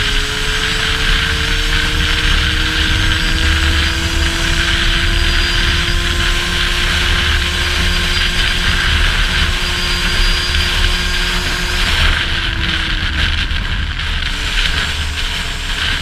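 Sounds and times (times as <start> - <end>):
loud low rumble: 0.0 - 16.0
motorcycle engine at high revs: 0.0 - 16.0.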